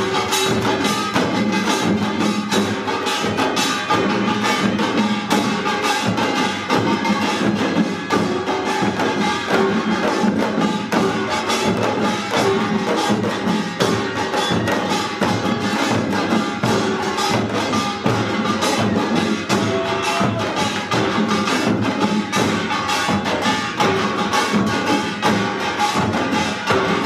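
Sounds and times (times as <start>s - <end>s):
drum ensemble playing fast: 0.0s - 27.0s.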